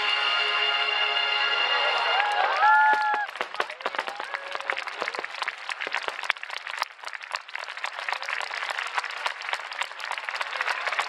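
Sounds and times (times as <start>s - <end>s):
large crowd applauding: 1.6s - 11.0s.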